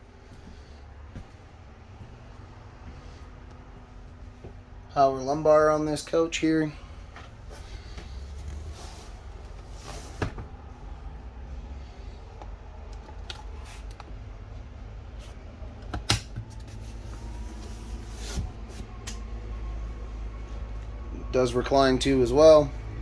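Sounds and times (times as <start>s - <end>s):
faint motor whine: 0.0s - 23.0s.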